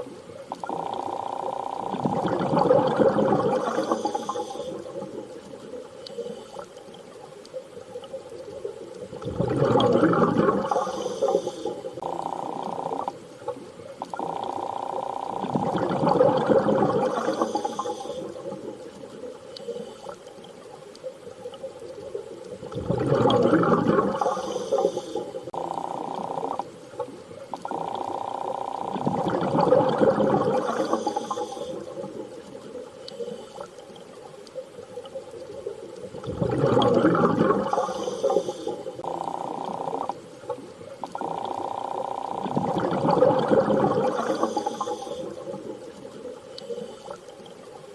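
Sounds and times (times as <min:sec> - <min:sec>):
underwater surging washes: 0:00.0 - 0:47.9.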